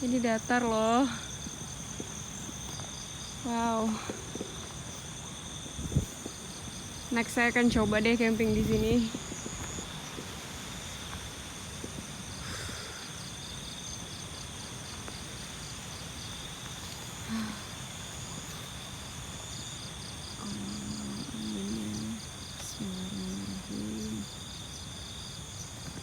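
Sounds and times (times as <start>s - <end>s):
crickets and insects chirring: 0.0s - 26.0s.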